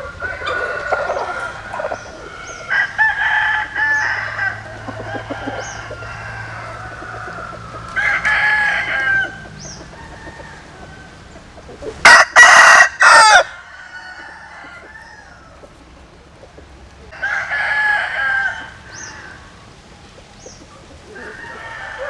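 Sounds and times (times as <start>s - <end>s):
rooster crowing: 0.0s - 11.3s, 12.0s - 15.6s, 17.1s - 19.6s, 21.1s - 22.0s
distant rooster crowing: 0.0s - 11.4s, 12.0s - 15.6s, 17.1s - 19.7s, 21.1s - 22.0s.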